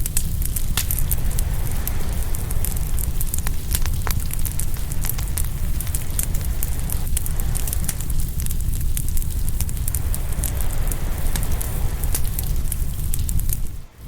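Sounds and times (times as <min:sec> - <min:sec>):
wood fire crackling and popping: 0:00.0 - 0:14.0
ocean waves on shore: 0:00.2 - 0:14.0.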